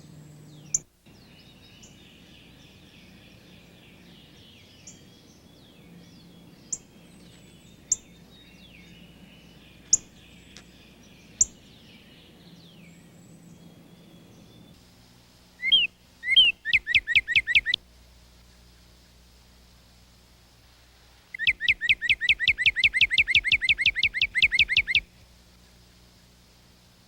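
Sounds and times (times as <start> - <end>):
faint birdsong: 0.0 - 27.0.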